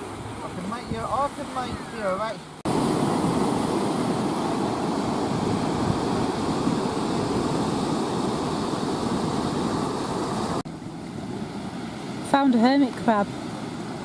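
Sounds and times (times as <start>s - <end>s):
surf on rocky shore: 0.0s - 14.0s.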